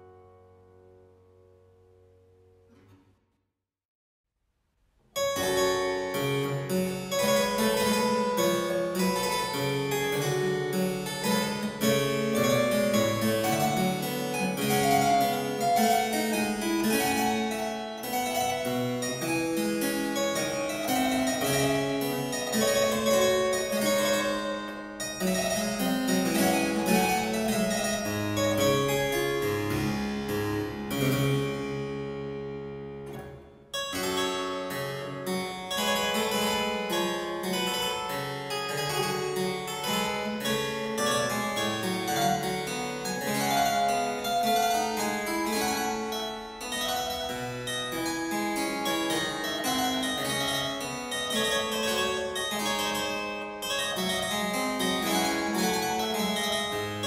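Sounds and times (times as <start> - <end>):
harpsichord music: 5.2 - 57.0.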